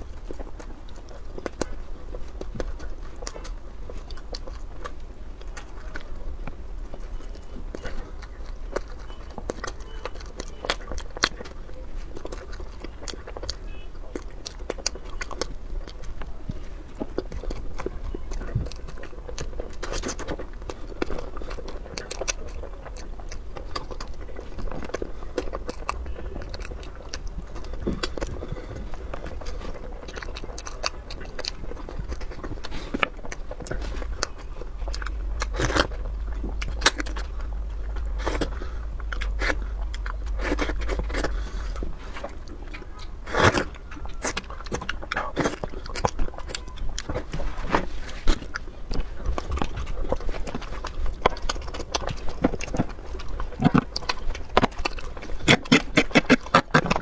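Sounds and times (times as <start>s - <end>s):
chewing and biting food: 0.0s - 57.0s
food snapping: 0.0s - 57.0s.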